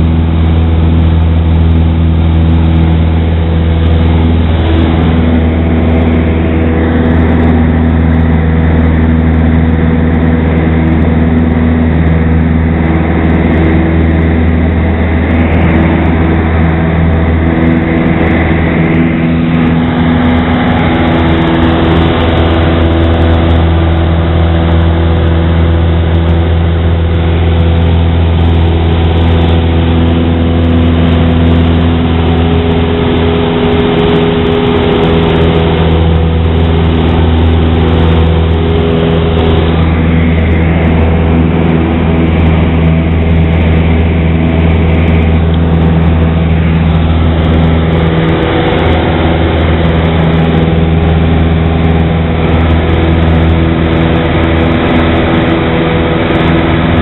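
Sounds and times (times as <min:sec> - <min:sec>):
airplane engine droning in cabin: 0:00.0 - 0:57.0.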